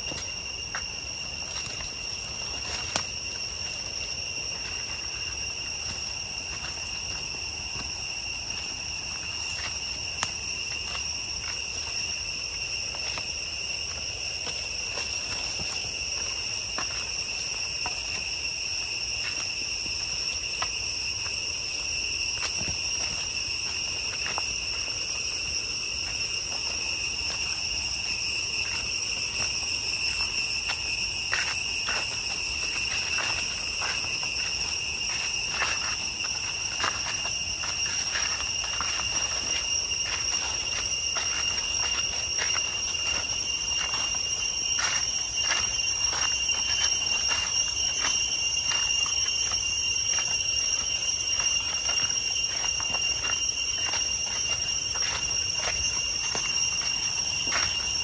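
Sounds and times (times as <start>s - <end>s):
cicadas droning: 0.0s - 58.0s
footsteps on dry leaves: 0.0s - 58.0s.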